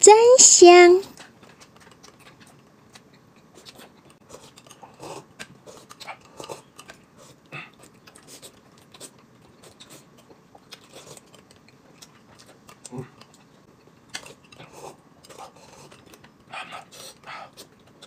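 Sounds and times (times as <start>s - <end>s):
quiet chewing: 1.1s - 18.0s.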